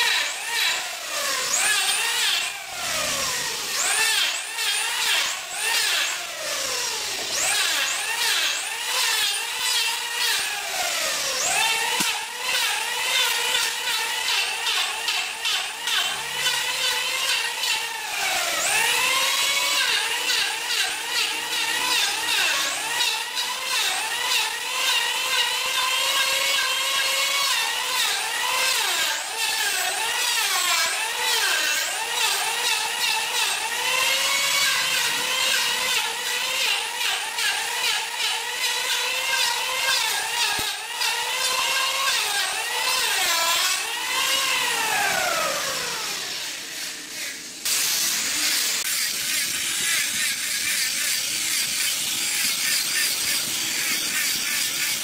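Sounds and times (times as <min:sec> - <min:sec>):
electric hand planer shaving wood: 0:00.0 - 0:55.0.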